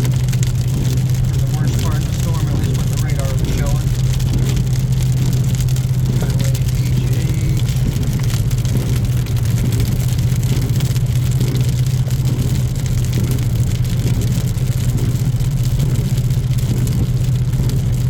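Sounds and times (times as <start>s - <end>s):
car cabin engine and road drone: 0.0s - 18.0s.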